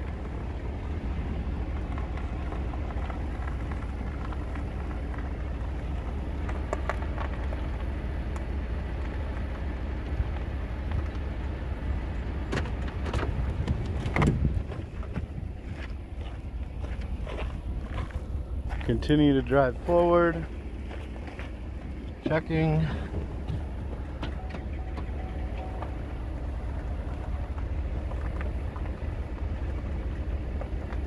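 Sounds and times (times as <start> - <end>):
truck engine rumbling: 0.0 - 31.0
tyres crunching on gravel: 0.0 - 31.0.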